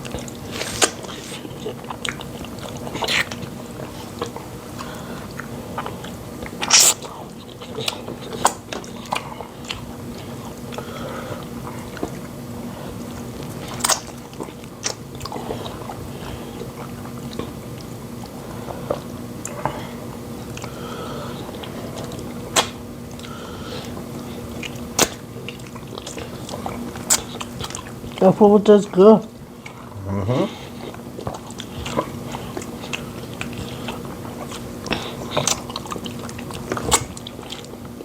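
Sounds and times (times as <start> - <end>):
chewing and wet mouth noises: 0.0 - 38.0
steady low hum: 0.0 - 38.0.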